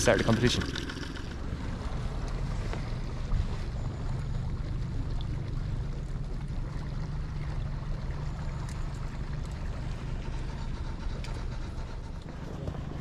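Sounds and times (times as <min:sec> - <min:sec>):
outboard boat motor droning: 0:00.0 - 0:13.0.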